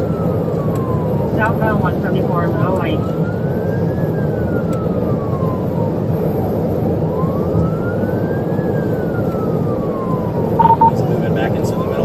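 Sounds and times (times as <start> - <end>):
police siren wailing: 0.0 - 12.0
road and engine noise: 0.0 - 12.0.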